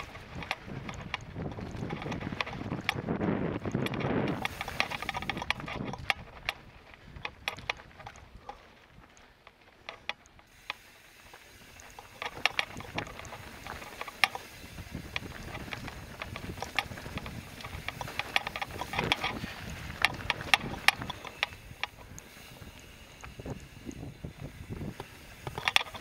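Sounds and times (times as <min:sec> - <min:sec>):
bike rattling over rough trail: 0:00.0 - 0:26.0
tyre noise: 0:00.0 - 0:26.0
wind: 0:00.0 - 0:26.0.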